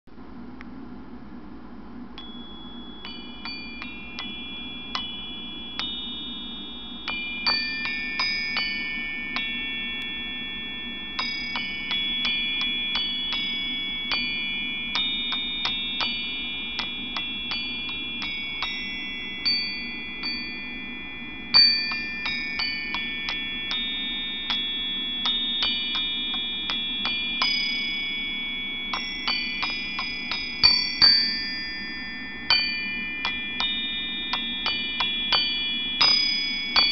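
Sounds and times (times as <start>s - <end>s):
low steady hum: 0.1s - 36.9s
metal chimes ringing: 2.2s - 36.9s.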